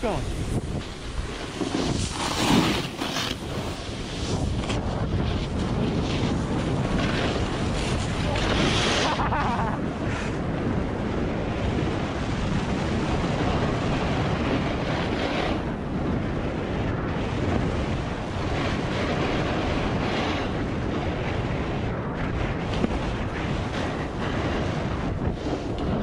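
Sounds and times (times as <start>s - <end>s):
wind buffeting microphone: 0.0s - 26.0s
snowmobile running: 0.1s - 26.0s.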